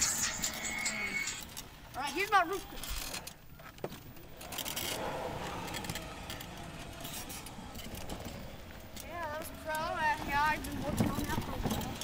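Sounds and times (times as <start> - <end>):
tyres skidding on loose dirt: 0.0 - 12.0.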